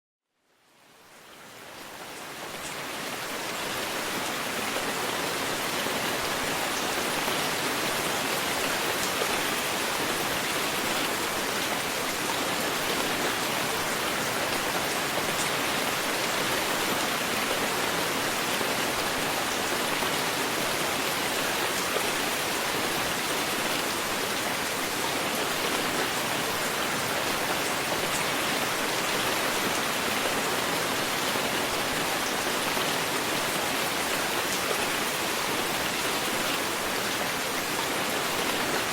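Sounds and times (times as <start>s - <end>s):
heavy rain falling: 1.5s - 38.9s.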